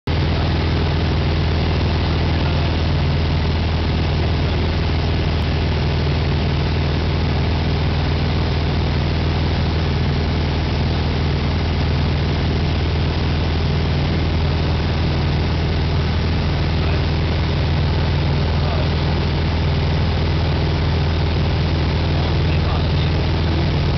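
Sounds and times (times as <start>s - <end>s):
aircraft engine and propeller droning: 0.1s - 23.9s.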